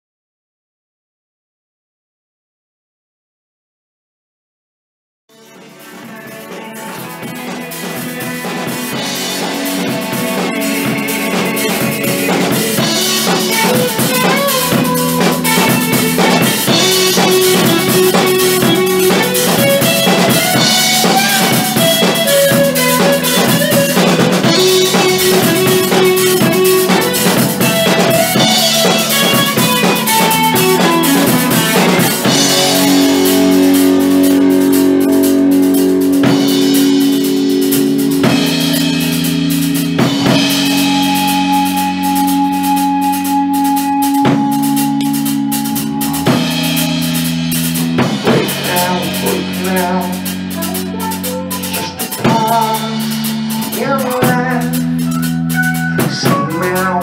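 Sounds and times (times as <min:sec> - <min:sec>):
bass guitar: 0:05.3 - 0:57.0
drum kit: 0:05.3 - 0:57.0
electric guitar: 0:05.3 - 0:57.0.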